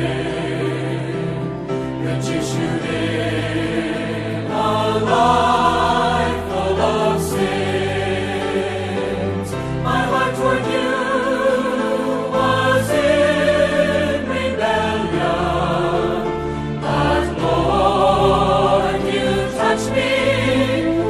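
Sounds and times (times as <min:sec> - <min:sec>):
slow choir-like hymn music: 0:00.0 - 0:21.0.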